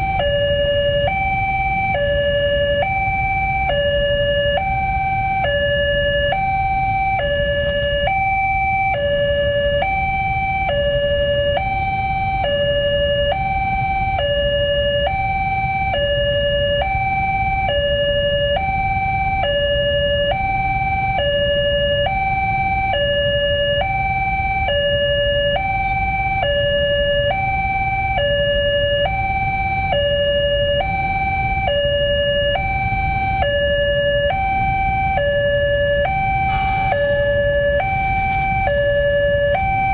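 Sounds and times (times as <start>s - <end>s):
low steady rumble: 0.0s - 39.9s
two-tone crossing alarm: 0.0s - 39.9s.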